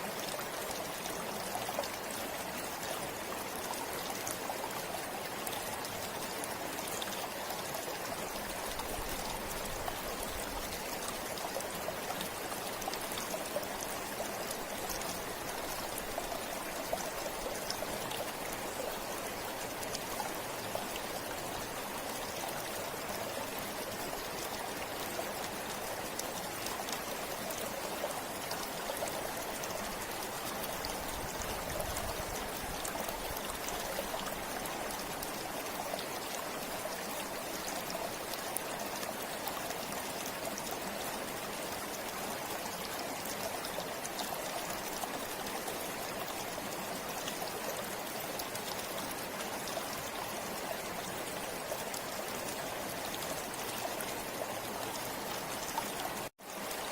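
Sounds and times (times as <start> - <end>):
stream flowing over stones: 0.0 - 56.9.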